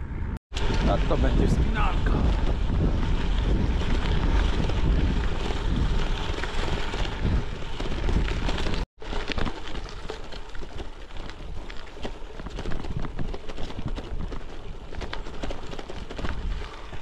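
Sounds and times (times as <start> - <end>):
wind buffeting microphone: 0.0 - 8.9, 10.7 - 17.0
tyres crunching on gravel: 0.5 - 17.0.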